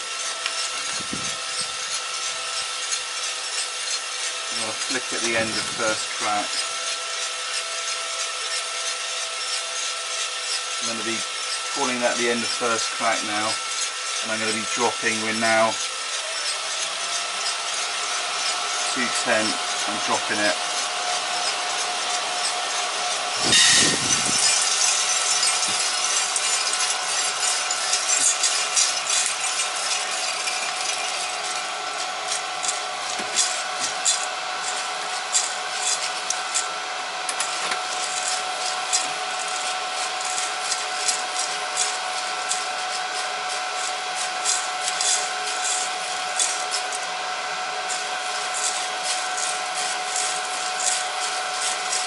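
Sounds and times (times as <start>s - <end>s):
coffee beans rattling and scraping: 0.0s - 52.0s
fans humming: 0.0s - 52.0s.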